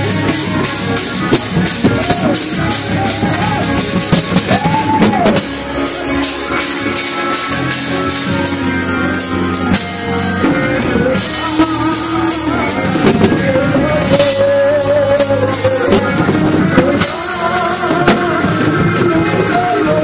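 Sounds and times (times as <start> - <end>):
drums: 0.0 - 20.0
person singing: 0.0 - 20.0.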